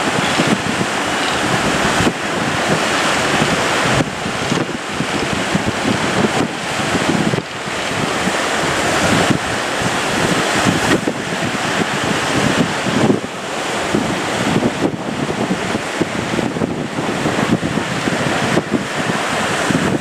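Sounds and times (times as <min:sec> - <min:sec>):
sea waves rushing: 0:00.0 - 0:20.0
wind buffeting microphone: 0:00.0 - 0:20.0.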